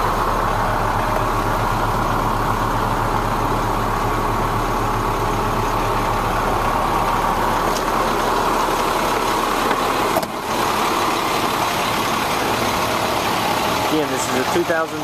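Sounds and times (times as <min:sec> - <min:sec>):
diesel truck engine idling: 0:00.0 - 0:15.0
engine knock: 0:00.0 - 0:15.0.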